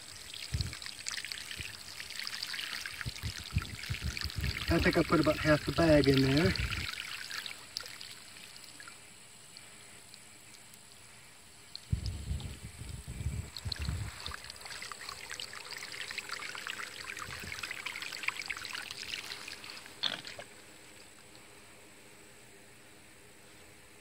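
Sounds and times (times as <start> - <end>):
water trickling into concrete mix: 0.0 - 21.5.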